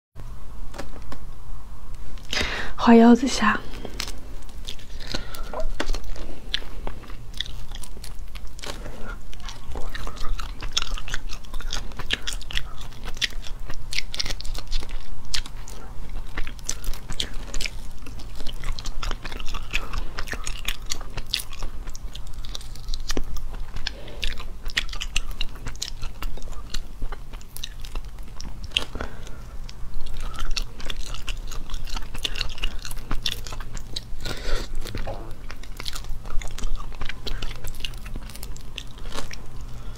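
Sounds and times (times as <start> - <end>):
wet chewing: 3.6 - 39.9
crunching shrimp shells: 3.7 - 39.9.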